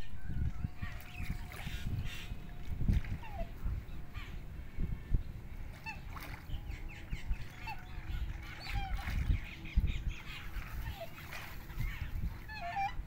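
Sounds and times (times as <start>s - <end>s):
birds honking and chirping: 0.0s - 13.0s
low rumbling noise: 0.0s - 13.0s.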